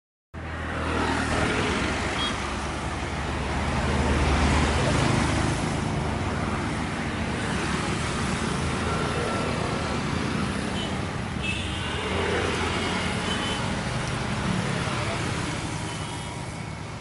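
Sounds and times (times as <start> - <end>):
highway traffic rumble: 0.4 - 17.0.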